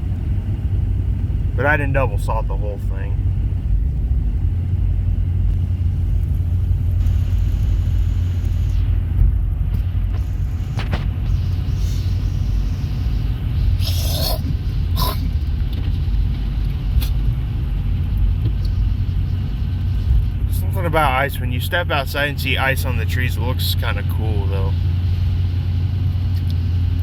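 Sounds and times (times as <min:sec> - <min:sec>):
vehicle rumble from inside cab: 0:00.0 - 0:27.0.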